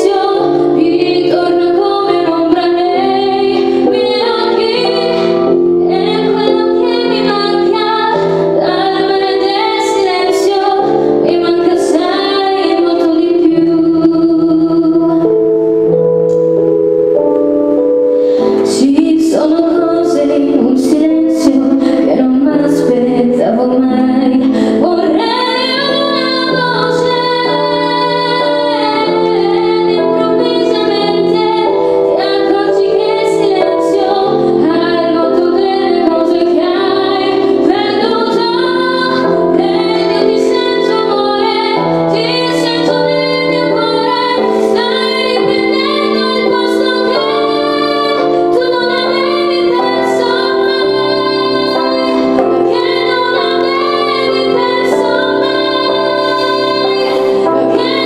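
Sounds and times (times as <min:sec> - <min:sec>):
woman singing a slow ballad: 0:00.0 - 0:15.4, 0:18.2 - 0:58.0
keyboard held chords: 0:00.0 - 0:58.0.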